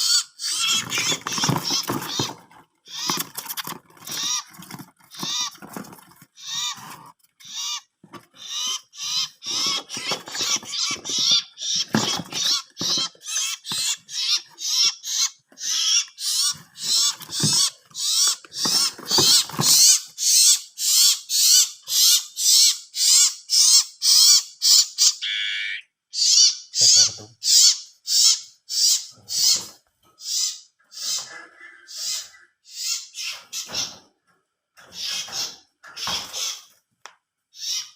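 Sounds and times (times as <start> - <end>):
songbirds calling: 0.0 - 34.2, 37.5 - 37.9.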